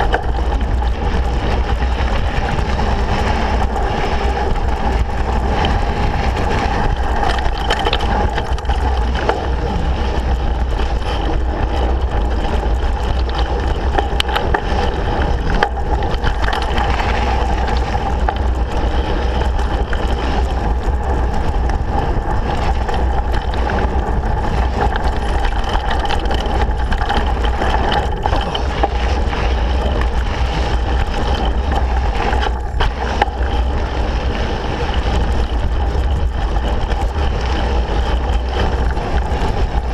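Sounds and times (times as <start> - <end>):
bike rattling and knocking: 0.0 - 39.9
wind buffeting microphone: 0.0 - 39.9.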